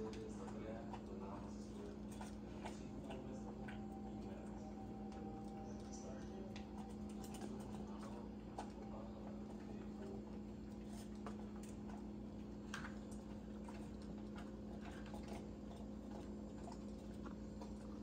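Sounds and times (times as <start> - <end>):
dogs chewing food from bowls: 0.0 - 18.0
low hum: 0.0 - 18.0.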